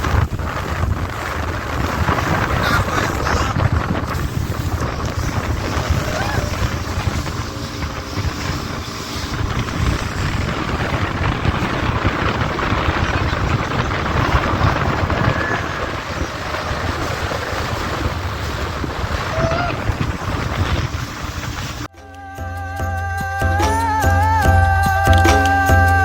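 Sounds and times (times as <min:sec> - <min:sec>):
boat rushing through sea: 0:00.0 - 0:21.9
wind buffeting microphone: 0:00.0 - 0:21.9.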